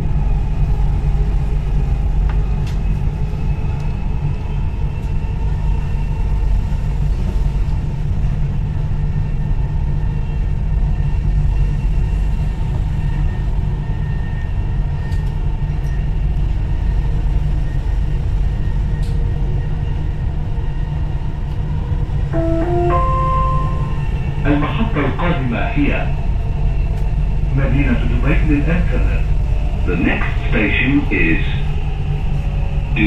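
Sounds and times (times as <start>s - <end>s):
train low rumble: 0.0s - 33.0s.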